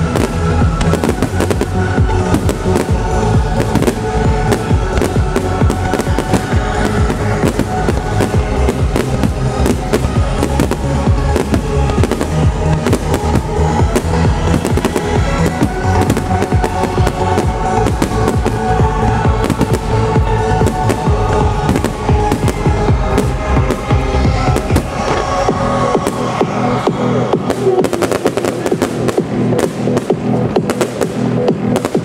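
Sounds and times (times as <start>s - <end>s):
fireworks bangs and crackles: 0.0s - 32.0s
trance music over loudspeakers: 0.0s - 32.0s.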